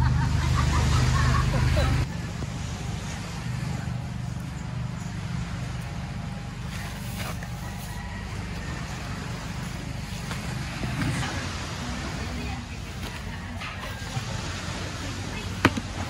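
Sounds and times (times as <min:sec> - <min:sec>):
low rumble of beach ambience: 0:00.0 - 0:16.0.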